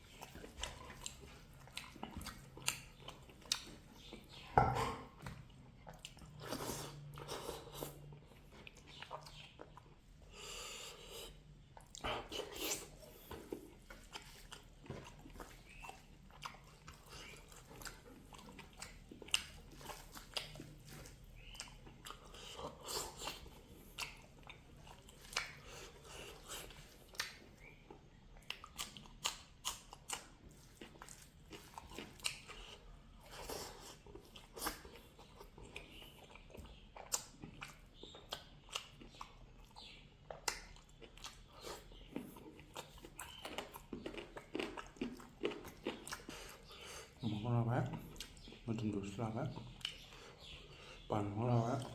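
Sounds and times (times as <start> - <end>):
person chewing and biting: 0.0 - 47.2.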